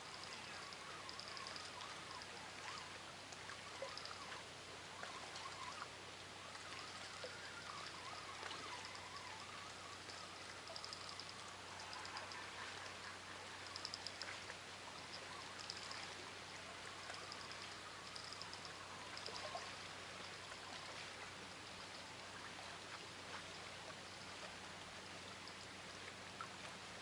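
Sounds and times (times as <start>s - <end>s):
river water flowing: 0.0s - 27.0s.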